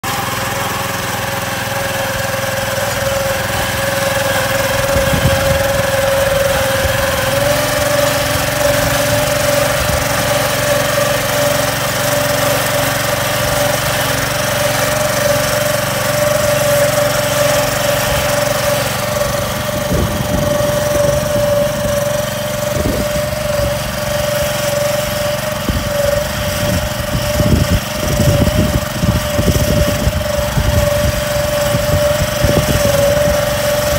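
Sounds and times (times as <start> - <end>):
petrol engine droning: 0.0 - 33.9.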